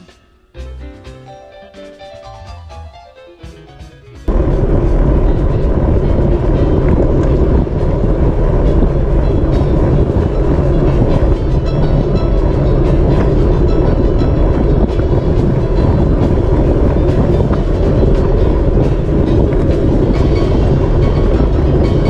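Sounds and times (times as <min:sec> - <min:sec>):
wind and road noise roar: 0:04.3 - 0:22.0.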